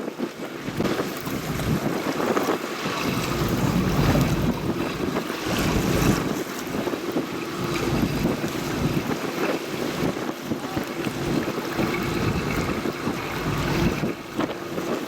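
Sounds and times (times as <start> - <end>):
sea water washing: 0.0 - 15.0
wind buffeting microphone: 0.0 - 15.0.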